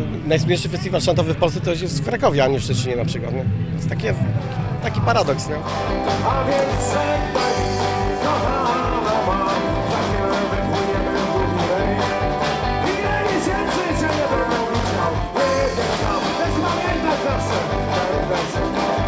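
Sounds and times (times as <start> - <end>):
steady drum beat: 0.0 - 19.0
electric guitars: 3.4 - 19.0
lead melody line: 3.5 - 19.0.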